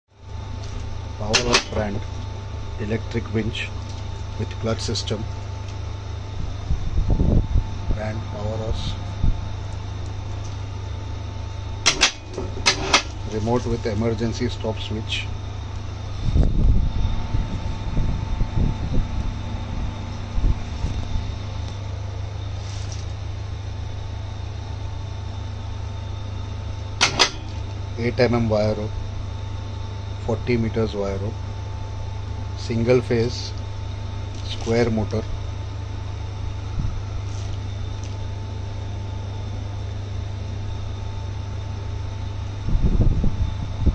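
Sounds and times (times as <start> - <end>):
low machine hum: 0.1 - 43.9.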